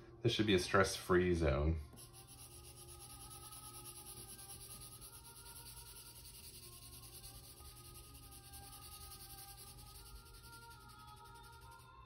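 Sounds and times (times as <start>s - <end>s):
faint soft music: 0.0s - 12.0s
pencil scratching on paper: 1.9s - 11.8s.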